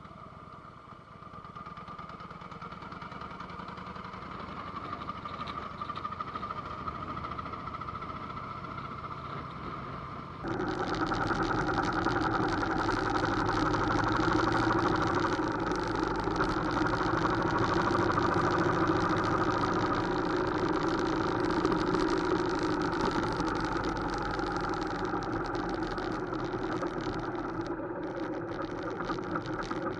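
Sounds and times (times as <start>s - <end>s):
motorcycle engine running: 1.0s - 29.9s.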